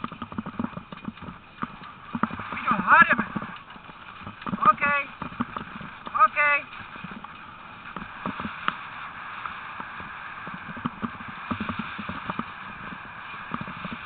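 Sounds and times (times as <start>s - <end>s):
rig rattling over rough ground: 0.0s - 14.0s
sled dogs running: 0.0s - 14.0s.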